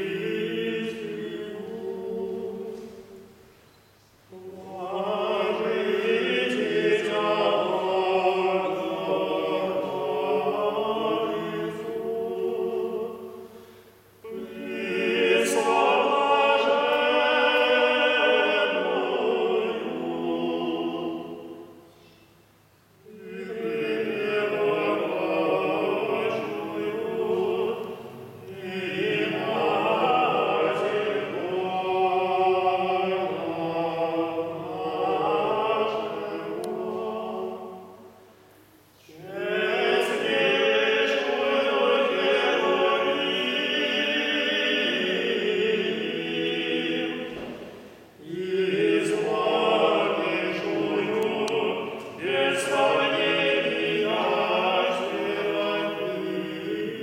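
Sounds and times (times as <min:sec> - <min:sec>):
male choir chanting unaccompanied: 0:00.0 - 0:03.3, 0:04.3 - 0:22.0, 0:23.0 - 0:38.2, 0:39.0 - 0:57.0.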